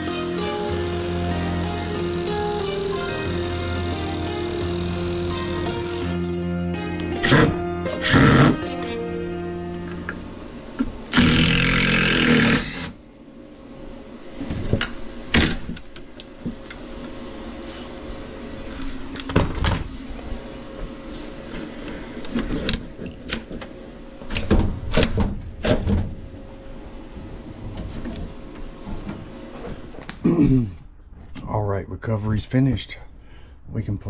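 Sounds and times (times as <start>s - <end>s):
faint machine hum: 0.0s - 34.0s.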